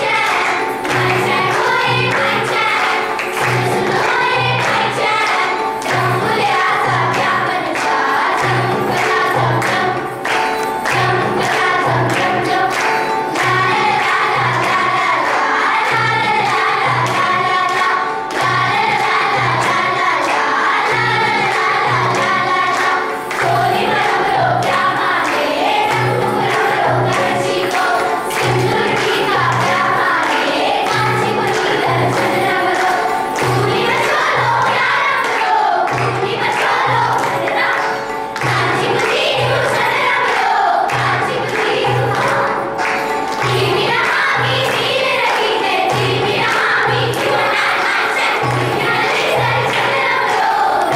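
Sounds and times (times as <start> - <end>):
choir singing: 0.0 - 50.9.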